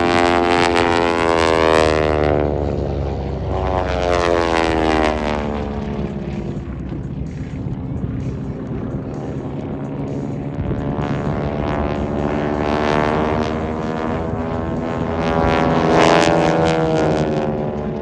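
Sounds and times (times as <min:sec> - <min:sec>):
propeller planes passing low: 0:00.0 - 0:18.0.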